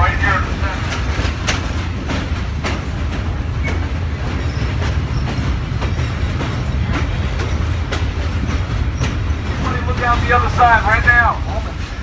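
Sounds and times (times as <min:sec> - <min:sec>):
train rumbling on track: 0:00.0 - 0:12.0
wheels clacking over rail joints: 0:00.0 - 0:12.0.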